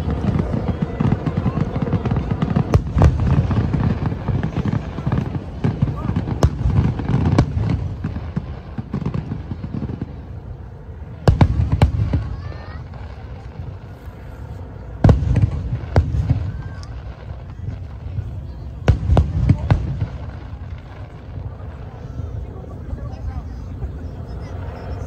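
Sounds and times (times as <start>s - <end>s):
crowd voices: 0.0s - 25.0s
fireworks bangs: 0.0s - 25.0s.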